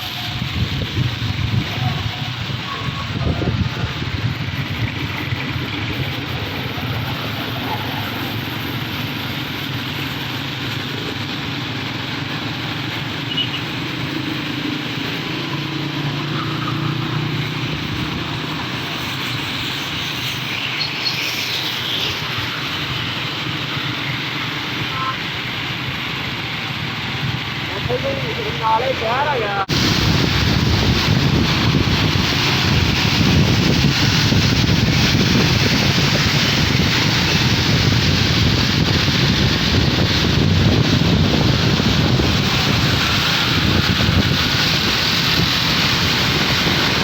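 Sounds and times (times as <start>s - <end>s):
tyres hissing on wet road: 0.0s - 47.0s.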